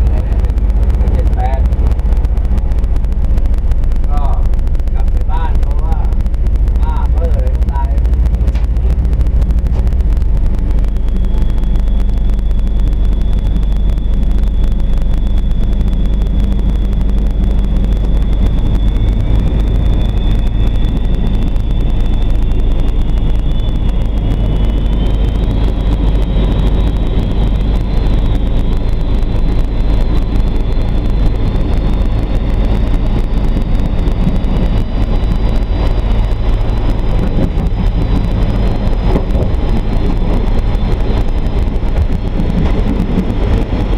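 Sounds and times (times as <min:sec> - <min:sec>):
diesel engine drone: 0:00.0 - 0:43.9
thin high whine: 0:00.0 - 0:43.9.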